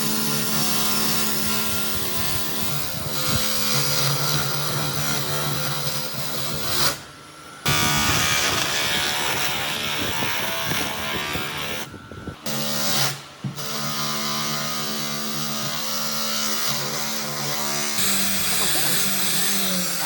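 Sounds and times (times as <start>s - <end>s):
woodworking power tool running: 0.0s - 20.0s.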